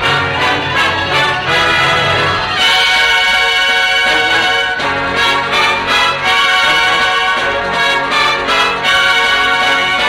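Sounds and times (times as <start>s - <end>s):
symphonic band playing: 0.0s - 10.0s.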